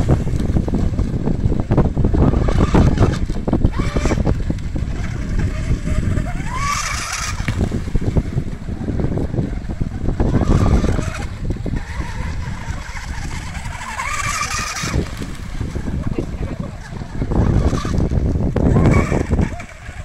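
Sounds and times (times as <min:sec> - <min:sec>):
electric boat motor whining: 0:00.0 - 0:20.0
wind rumble on microphone: 0:00.0 - 0:20.0.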